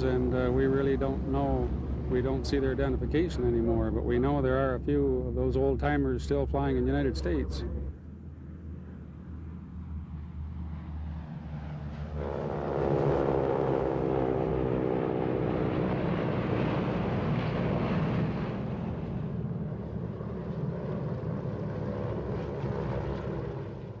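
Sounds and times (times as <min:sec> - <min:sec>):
propeller plane flying past: 0:00.0 - 0:24.0.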